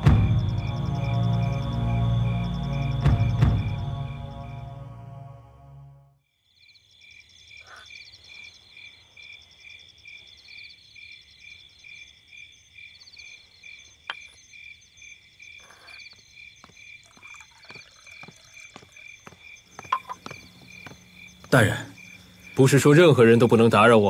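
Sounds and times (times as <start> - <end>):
frogs pulsing call: 0.0 - 4.7, 6.6 - 24.0.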